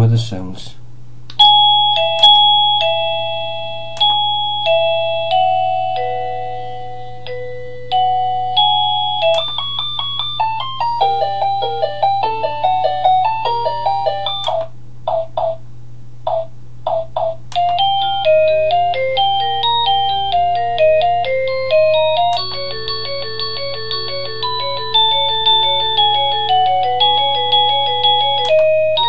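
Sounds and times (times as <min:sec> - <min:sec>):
electronic doorbell chime: 0:01.4 - 0:15.6, 0:17.1 - 0:29.0.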